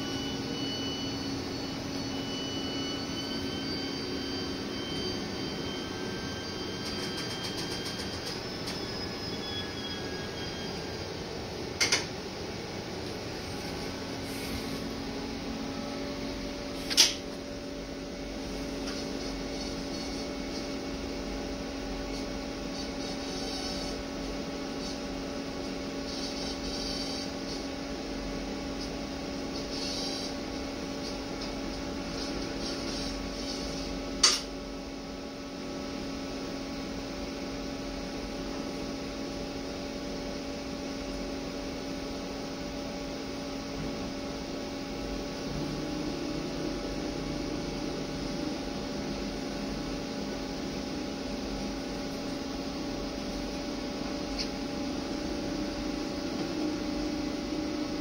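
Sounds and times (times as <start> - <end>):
electrical machine hum: 0.0 - 58.0.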